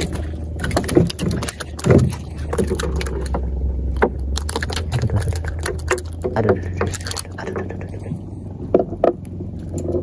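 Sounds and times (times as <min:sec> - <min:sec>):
fish handling knocks and rustles: 0:00.0 - 0:10.0
steady low rumble: 0:00.0 - 0:10.0.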